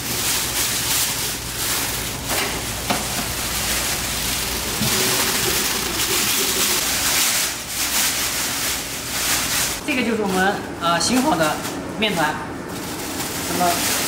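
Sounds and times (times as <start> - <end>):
steady low hum: 0.0 - 13.4
plastic bag rustling and crinkling: 0.0 - 14.0.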